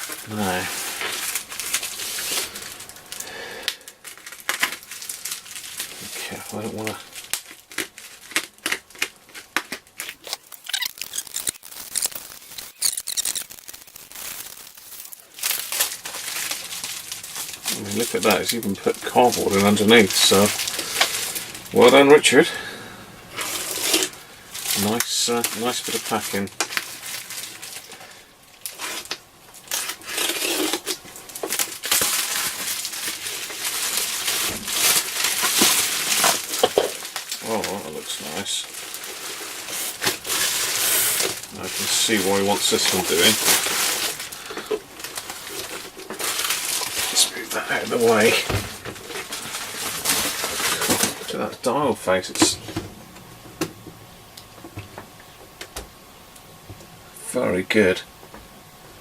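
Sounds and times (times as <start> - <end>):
packing material rustling and crinkling: 0.0 - 52.8.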